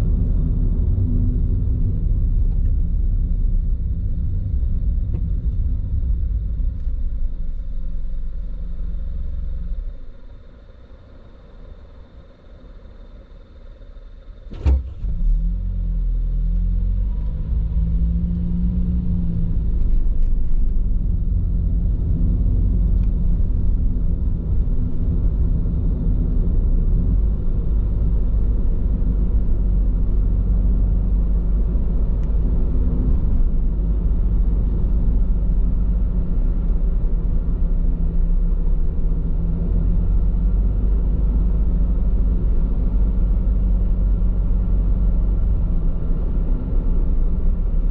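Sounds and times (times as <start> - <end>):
car road and tyre rumble: 0.0 - 47.9.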